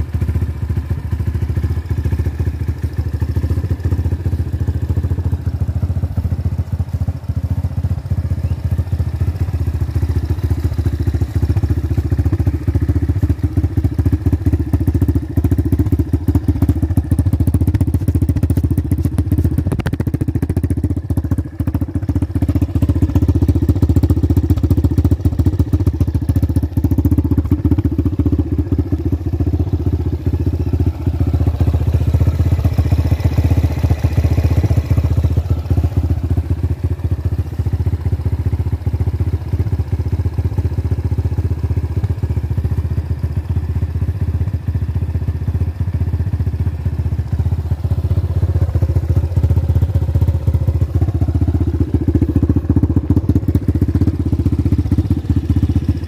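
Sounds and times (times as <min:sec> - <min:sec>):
dirt bike engine idling: 0:00.0 - 0:56.0.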